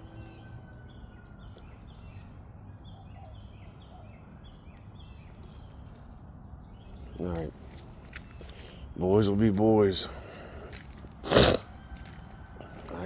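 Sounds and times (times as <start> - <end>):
low outdoor background hum: 0.0 - 13.0.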